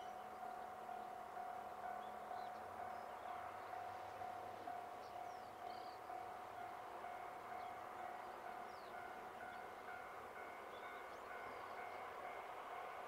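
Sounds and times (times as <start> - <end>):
level-crossing warning bell: 0.0 - 13.0.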